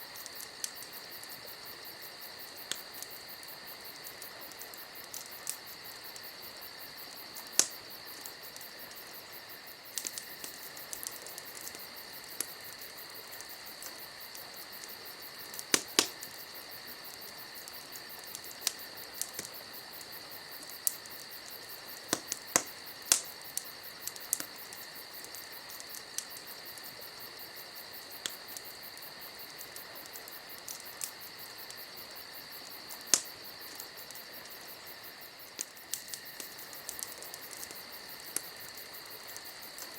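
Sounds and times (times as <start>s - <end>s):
campfire wood crackling: 0.0s - 39.9s
high-pitched insect chorus: 0.0s - 39.9s
sharp pops of fire: 0.0s - 39.9s.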